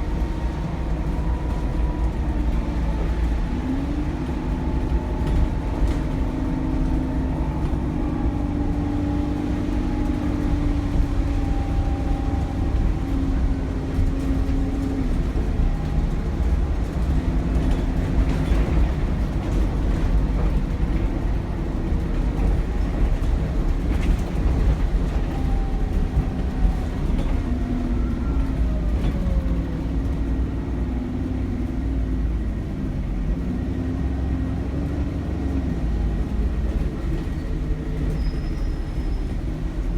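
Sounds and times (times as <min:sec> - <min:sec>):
bus engine droning: 0:00.0 - 0:39.9
heavy road rumble: 0:00.0 - 0:39.9.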